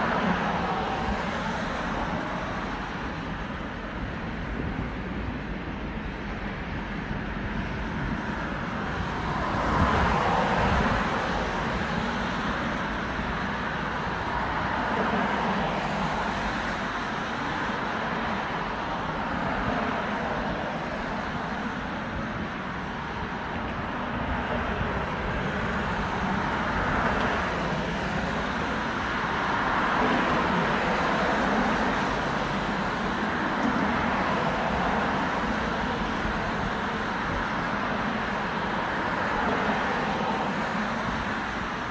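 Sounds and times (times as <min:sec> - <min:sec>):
road traffic rushing: 0:00.0 - 0:41.9.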